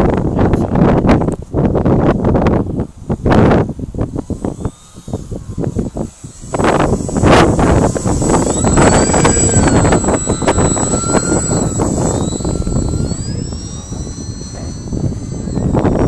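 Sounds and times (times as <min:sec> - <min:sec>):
wind rumble on microphone: 0:00.0 - 0:16.0
model plane motor whining: 0:00.8 - 0:16.0.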